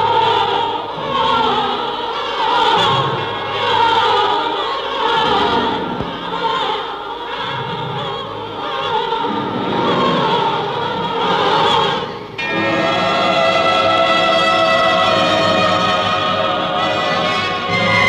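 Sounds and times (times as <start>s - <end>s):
operatic choral film music: 0.0s - 18.0s.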